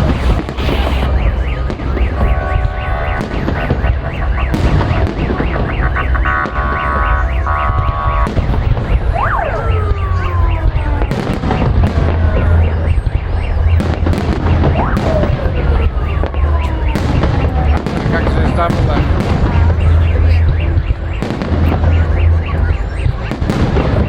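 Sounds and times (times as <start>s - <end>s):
car alarm: 0.0s - 24.0s
fireworks bangs: 0.0s - 24.0s.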